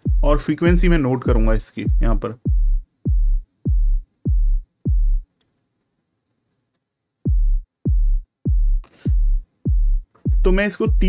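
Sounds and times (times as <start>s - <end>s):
muffled kick drum thumps: 0.0s - 5.2s, 7.3s - 11.0s.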